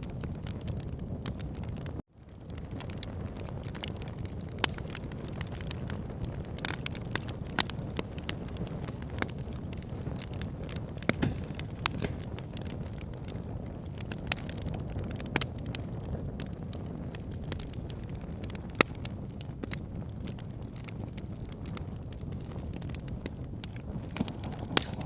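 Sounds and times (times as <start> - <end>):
burning logs crackling and popping: 0.0 - 25.0
fire flames rumbling: 0.0 - 25.0.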